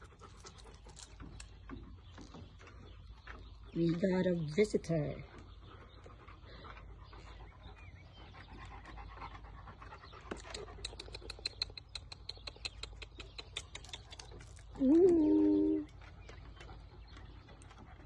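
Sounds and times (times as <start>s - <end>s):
dog panting: 0.0s - 14.8s, 15.5s - 18.0s.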